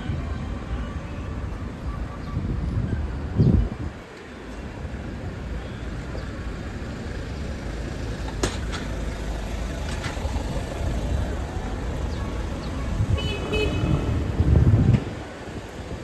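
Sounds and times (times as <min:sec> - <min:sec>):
outdoor traffic rumble: 0:00.0 - 0:16.0.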